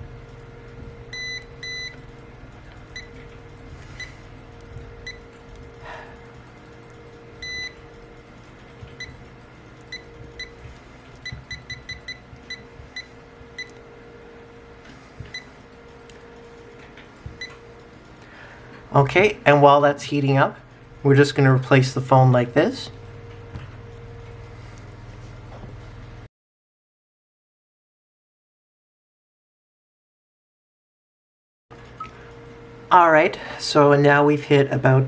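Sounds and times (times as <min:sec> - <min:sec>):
faint steady hum: 0:00.0 - 0:26.3, 0:31.8 - 0:35.0.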